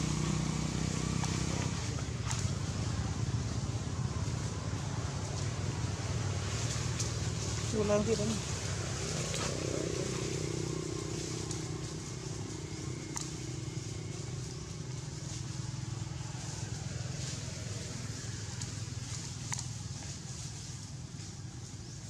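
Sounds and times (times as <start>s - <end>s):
motor engine droning: 0.0s - 22.0s.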